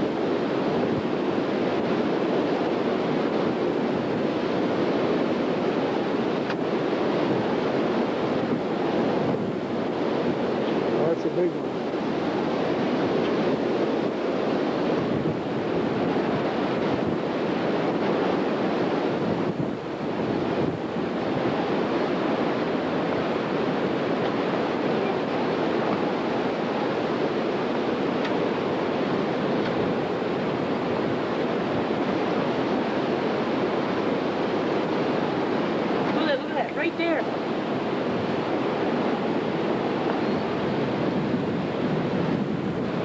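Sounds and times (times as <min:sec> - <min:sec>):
storm wind rushing over microphone: 0:00.0 - 0:43.0.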